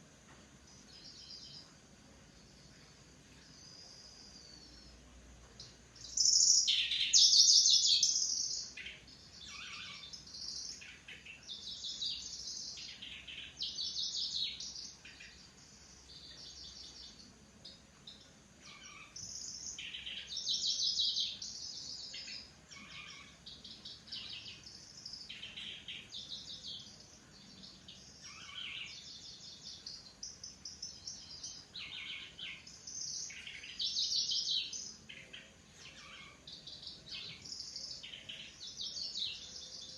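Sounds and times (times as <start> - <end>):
songbird buzzy chattering song: 0.0 - 39.9.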